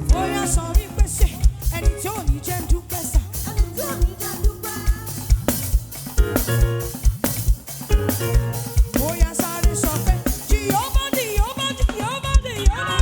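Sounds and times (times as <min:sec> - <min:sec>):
gospel band music: 0:00.0 - 0:13.0.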